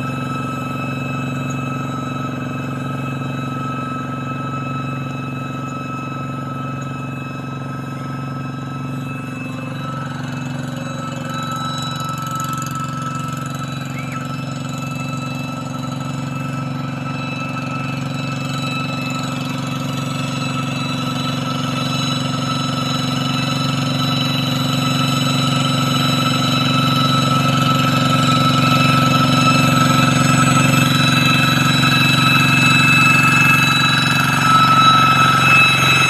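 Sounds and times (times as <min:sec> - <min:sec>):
diesel tractor engine running: 0:00.0 - 0:36.0
steady high whine: 0:00.0 - 0:36.0.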